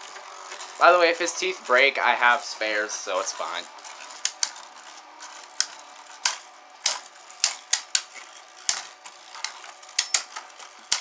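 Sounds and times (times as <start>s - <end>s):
spinning tops clacking: 0.0s - 11.0s.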